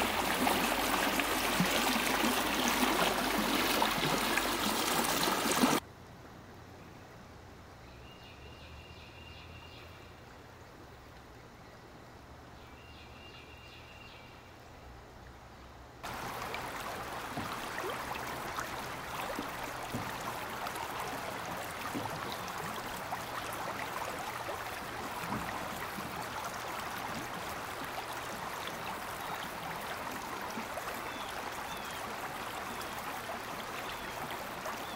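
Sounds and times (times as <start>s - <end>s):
river water rippling: 0.0s - 34.9s.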